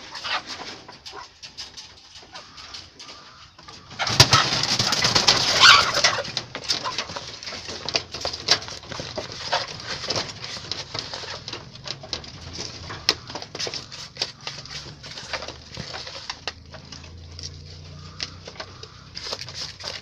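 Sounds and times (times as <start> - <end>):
chickens calling and clucking: 0.0 - 20.0.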